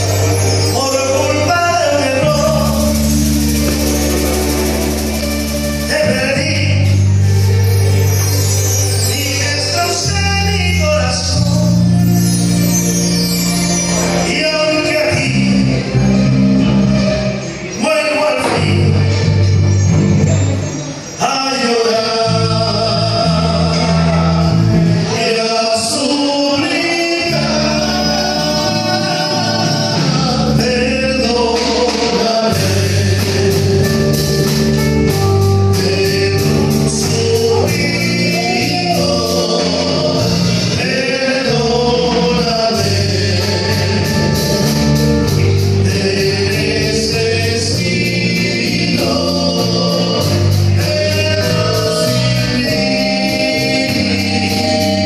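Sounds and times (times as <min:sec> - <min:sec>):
person singing: 0:00.0 - 0:13.2, 0:20.5 - 0:55.0
live band playing slow song: 0:00.0 - 0:55.0.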